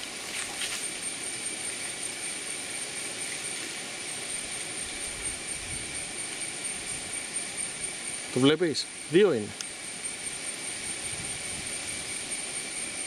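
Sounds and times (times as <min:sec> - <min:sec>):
high-pitched whine: 0:00.0 - 0:13.0
steady hiss: 0:00.0 - 0:13.0.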